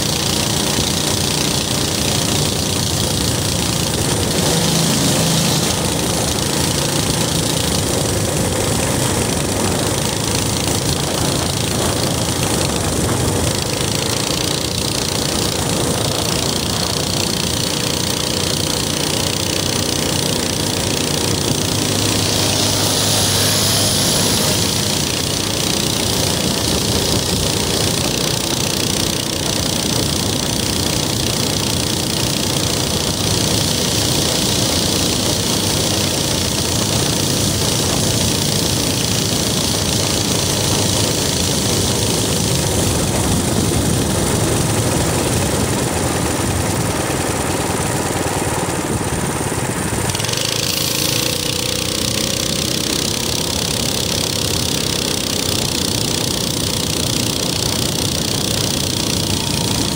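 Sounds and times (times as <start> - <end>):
minibike engine running steadily: 0.0 - 59.9.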